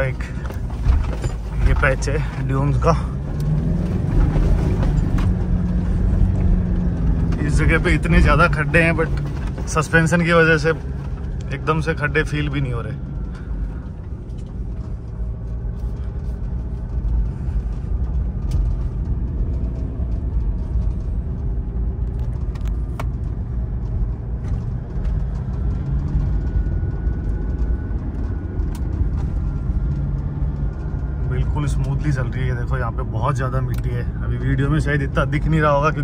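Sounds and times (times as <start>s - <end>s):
engine and drivetrain rumble: 0.0s - 36.0s.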